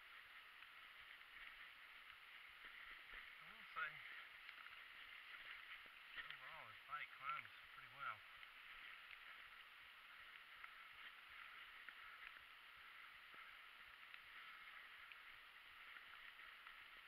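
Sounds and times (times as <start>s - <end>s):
bike tyres rolling on wet leaves: 0.0s - 17.0s
small ticks and rattles: 0.0s - 17.0s.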